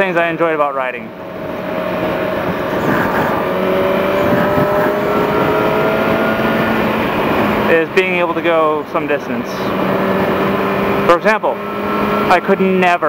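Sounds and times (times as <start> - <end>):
wind and road noise: 0.0 - 13.0
motorcycle engine at speed: 1.0 - 13.0.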